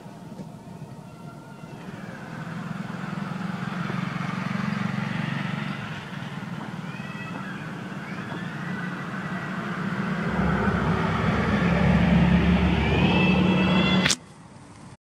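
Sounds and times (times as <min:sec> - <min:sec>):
vehicle engine humming: 0:01.8 - 0:14.9.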